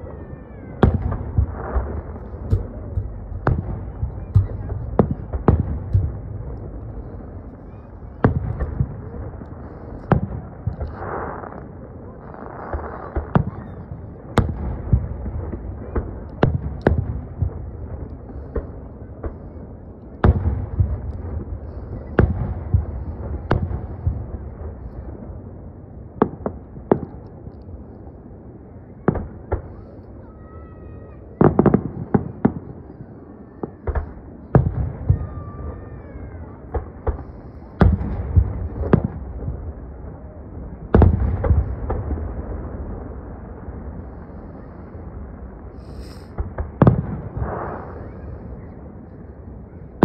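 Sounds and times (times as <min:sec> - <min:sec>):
fireworks booming: 0:00.0 - 0:25.5, 0:29.0 - 0:50.0.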